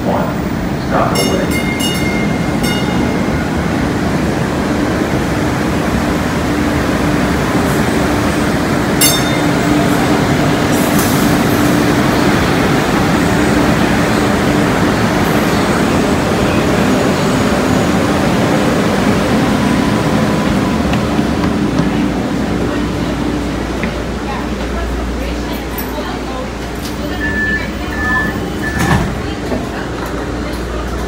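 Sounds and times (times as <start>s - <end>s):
light-rail train rumble: 0.0s - 31.0s.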